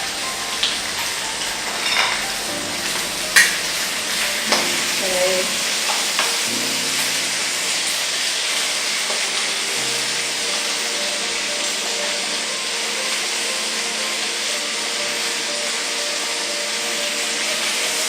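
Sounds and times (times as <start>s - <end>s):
chicken wings sizzling in oil: 0.0s - 18.0s.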